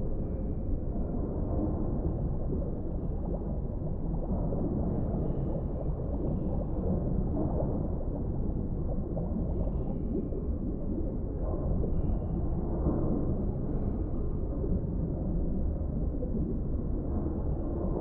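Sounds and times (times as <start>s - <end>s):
underwater water noise: 0.0s - 18.0s.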